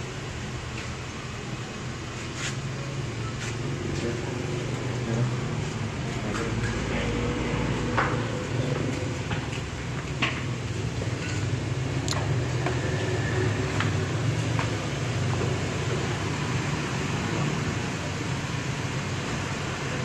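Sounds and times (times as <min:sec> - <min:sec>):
low workshop hum: 0:00.0 - 0:20.0.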